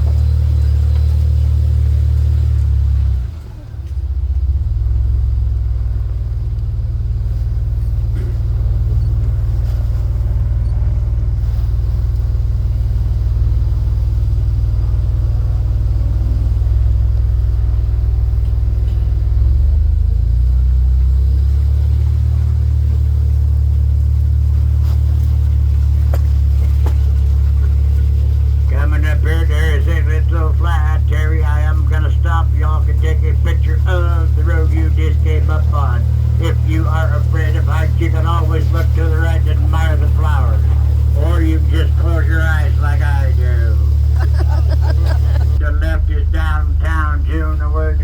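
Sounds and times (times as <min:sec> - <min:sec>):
vehicle engine drone: 0:00.0 - 0:48.0.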